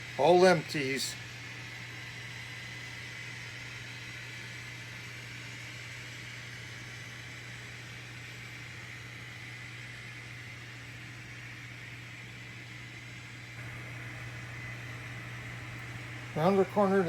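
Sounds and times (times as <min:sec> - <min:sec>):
model train hum and hiss: 0:00.0 - 0:17.0.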